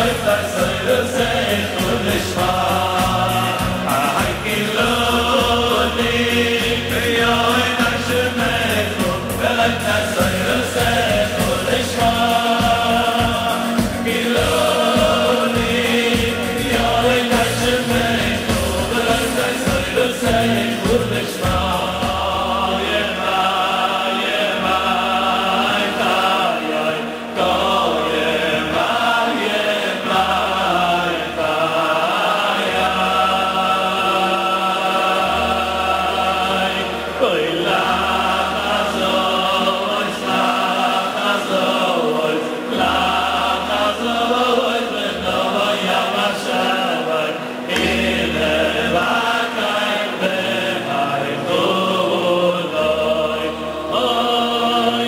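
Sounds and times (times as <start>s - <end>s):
men singing in unison: 0.0s - 55.0s.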